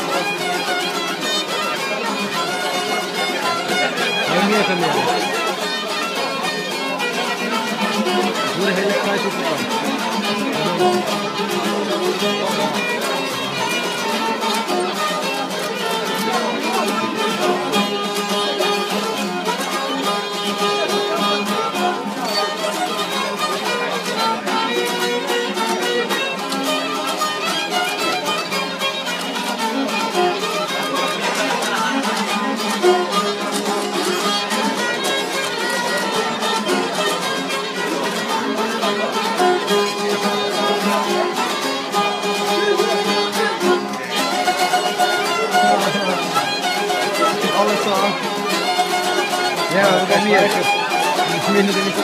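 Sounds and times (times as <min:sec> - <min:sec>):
folk music on plucked lutes: 0:00.0 - 0:52.0.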